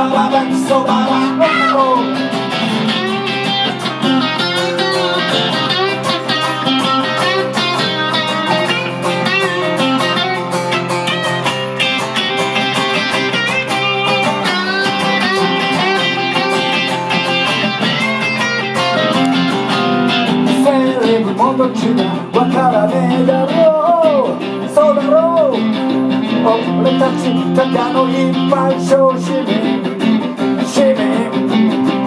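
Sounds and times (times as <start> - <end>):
lead guitar line: 0.0 - 32.0
strummed guitar accompaniment: 0.0 - 32.0.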